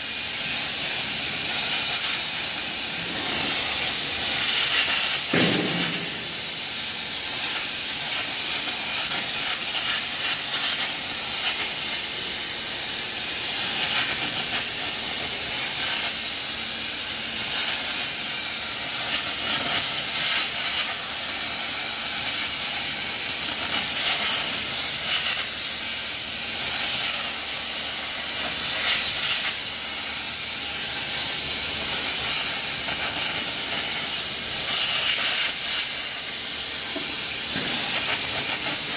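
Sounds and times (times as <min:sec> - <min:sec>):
loud high hiss of arc: 0:00.0 - 0:38.9
plasma torch cutting metal: 0:00.0 - 0:38.9.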